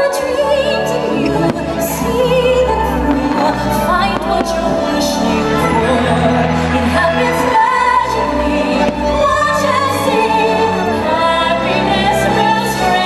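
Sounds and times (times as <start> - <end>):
orchestral soundtrack with singing: 0.0 - 13.0.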